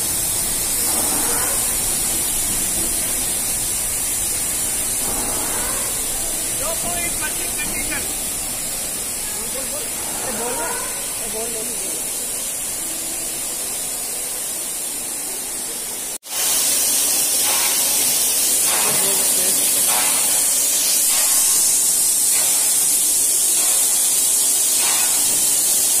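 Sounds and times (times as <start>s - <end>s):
steam locomotive hissing: 0.0s - 26.0s.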